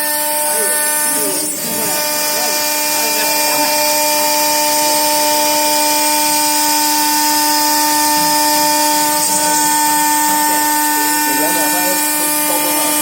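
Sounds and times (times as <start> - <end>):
router spindle high-pitched whine: 0.0 - 13.0.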